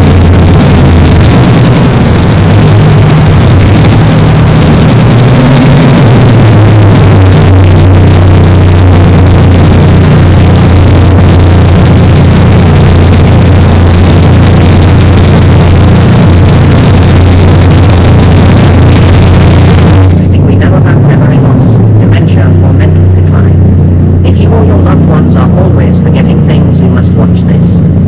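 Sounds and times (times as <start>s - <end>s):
loud rushing noise: 0.0s - 28.0s
motorboat engine running: 0.0s - 28.0s.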